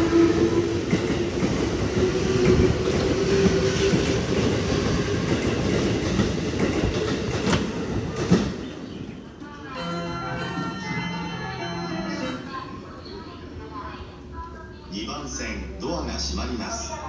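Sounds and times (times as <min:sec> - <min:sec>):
train rumble: 0:00.0 - 0:14.2.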